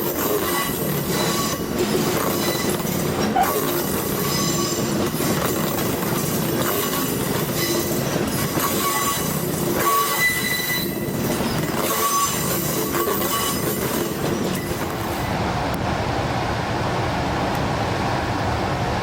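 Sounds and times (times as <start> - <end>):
train wheel squeals: 0.0 - 15.4
train wheels clattering on rails: 0.0 - 15.4.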